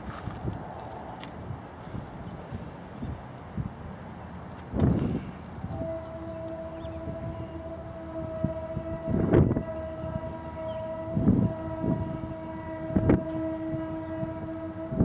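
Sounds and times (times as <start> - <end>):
train droning tone: 0.0 - 15.0.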